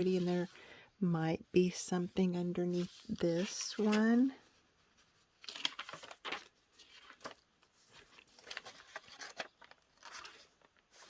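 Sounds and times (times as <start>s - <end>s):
paper pages rustling: 0.0s - 0.6s, 2.7s - 11.0s.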